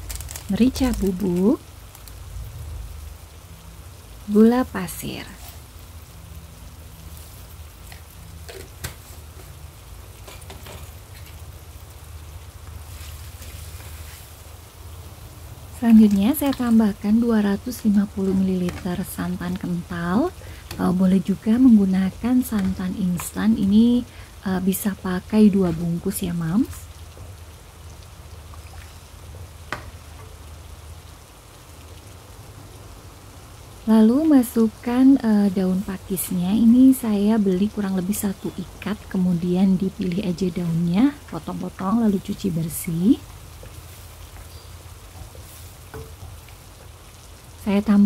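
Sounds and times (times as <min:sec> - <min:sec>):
broth bubbling in a wok: 0:00.0 - 0:48.0
curry simmering with fizzing crackle: 0:00.0 - 0:48.0.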